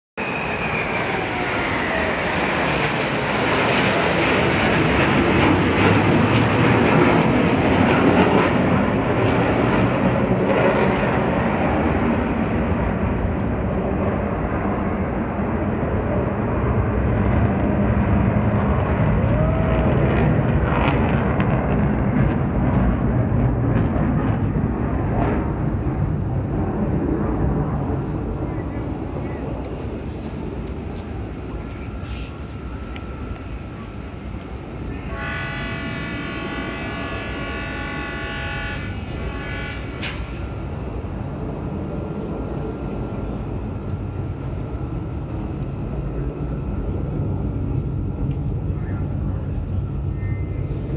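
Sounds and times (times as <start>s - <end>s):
falling jet whine: 0.2s - 50.9s
jet engine noise: 0.2s - 50.9s.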